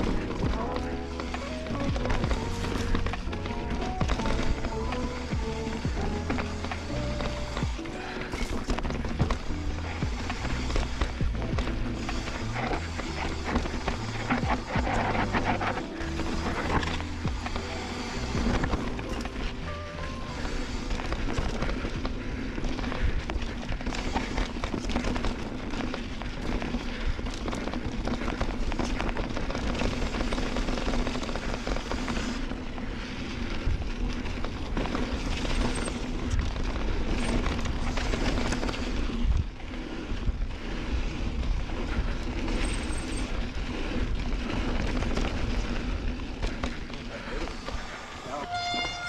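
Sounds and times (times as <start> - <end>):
bike chain and frame rattling: 0.0 - 49.0
tyre noise on dirt: 0.0 - 49.0.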